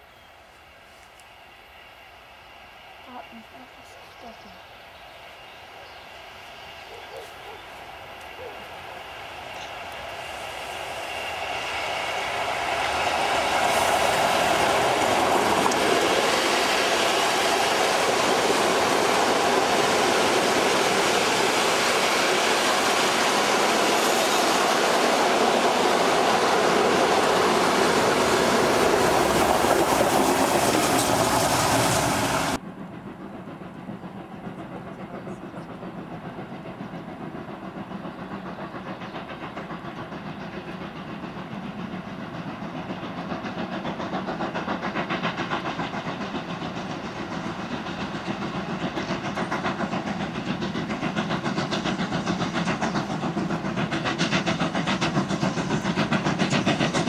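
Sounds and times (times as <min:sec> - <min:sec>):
steam train passing: 0:00.0 - 0:57.0
wheels rumbling on rails: 0:02.9 - 0:57.0.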